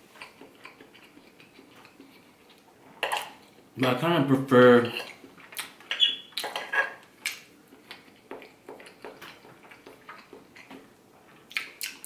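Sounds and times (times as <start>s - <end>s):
chewing with wet mouth clicks: 0.1s - 3.6s, 5.1s - 12.0s.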